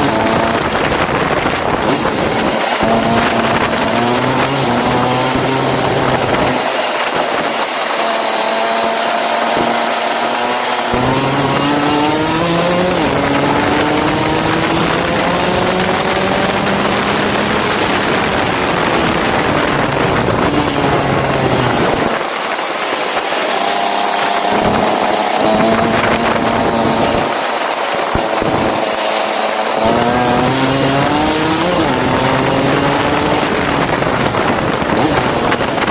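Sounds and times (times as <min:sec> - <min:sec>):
go-kart engine revving: 0:00.0 - 0:35.9.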